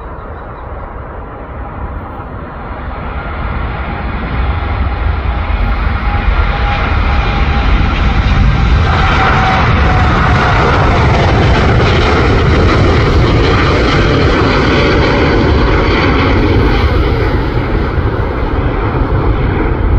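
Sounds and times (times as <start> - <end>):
jet engines roaring: 0.0 - 19.9.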